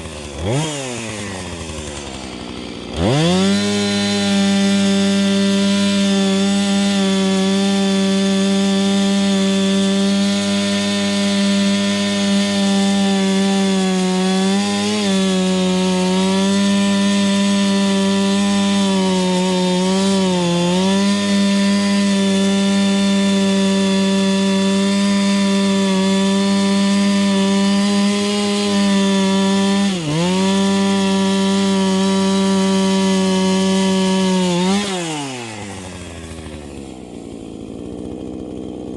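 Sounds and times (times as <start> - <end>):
chainsaw cutting firewood: 0.0 - 38.9.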